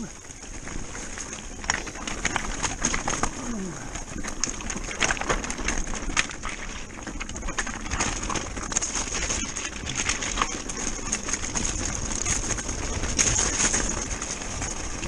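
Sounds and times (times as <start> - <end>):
bike rattling: 0.0 - 15.0
tyres crunching over stones: 0.0 - 15.0.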